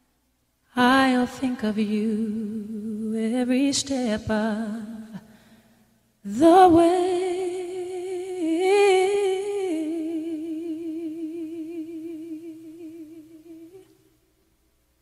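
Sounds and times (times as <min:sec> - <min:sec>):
person singing with vibrato: 0:00.7 - 0:05.4, 0:06.2 - 0:14.1.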